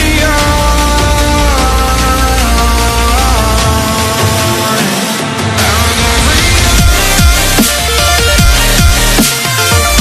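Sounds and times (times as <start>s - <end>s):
music with heavy bass: 0.0s - 10.0s.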